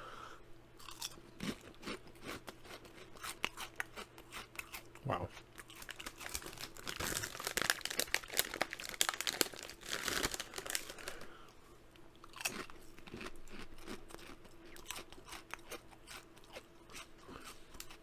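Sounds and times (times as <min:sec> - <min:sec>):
person crunching potato chips: 0:00.8 - 0:11.6, 0:12.2 - 0:18.0.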